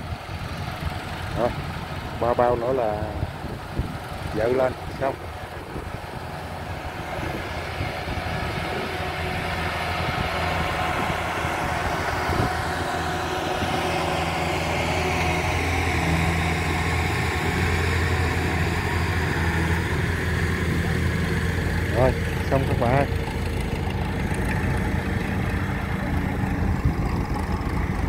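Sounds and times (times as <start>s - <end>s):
diesel engines idling: 0.0s - 28.0s.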